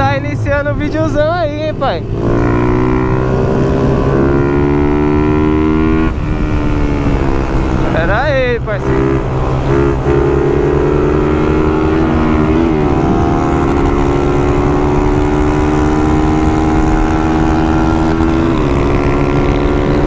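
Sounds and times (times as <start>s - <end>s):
motorcycle engine at high revs: 1.5s - 20.0s.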